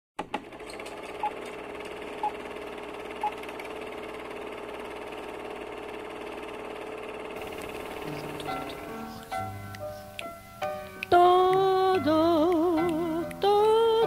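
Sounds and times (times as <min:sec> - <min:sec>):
film projector whirring: 0:00.2 - 0:14.0.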